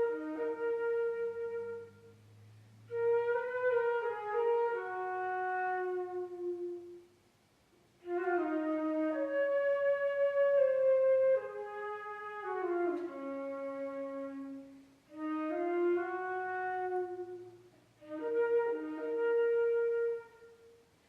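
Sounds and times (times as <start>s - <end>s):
solo flute playing: 0.0s - 2.2s, 2.8s - 7.2s, 8.0s - 20.9s.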